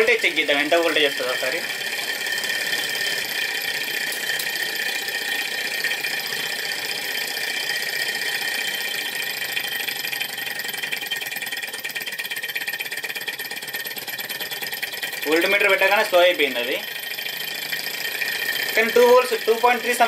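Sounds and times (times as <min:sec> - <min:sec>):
model engine whirring and clattering: 0:00.0 - 0:20.0.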